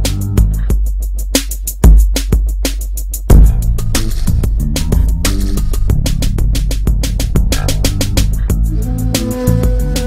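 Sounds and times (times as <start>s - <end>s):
music with deep bass beat: 0.0s - 10.0s.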